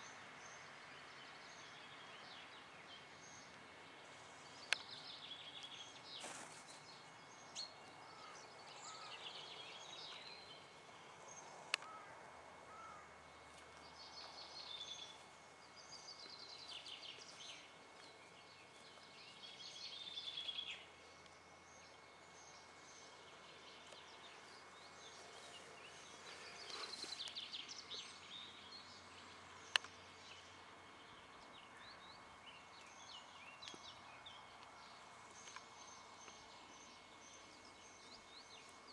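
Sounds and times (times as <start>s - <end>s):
faint songbirds trilling: 0.0s - 38.9s
steady outdoor hiss: 0.0s - 38.9s.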